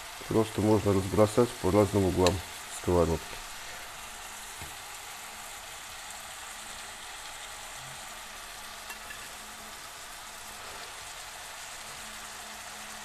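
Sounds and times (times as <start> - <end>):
mushrooms sizzling in a frying pan: 0.0 - 13.0.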